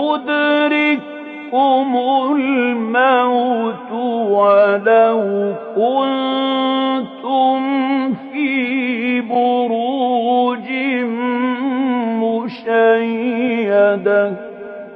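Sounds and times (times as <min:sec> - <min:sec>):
man chanting melodically: 0:00.0 - 0:14.9.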